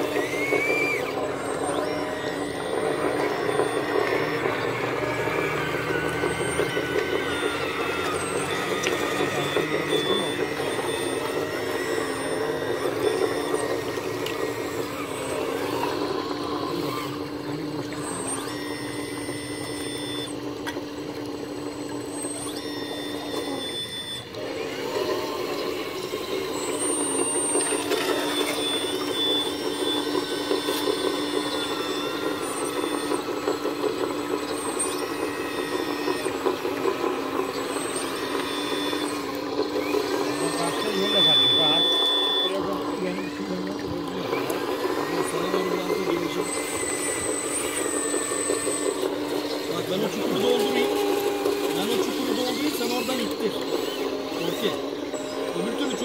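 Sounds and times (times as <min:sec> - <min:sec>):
excavator hydraulic hum: 0:00.0 - 0:56.0
high-pitched hydraulic whines: 0:00.0 - 0:56.0.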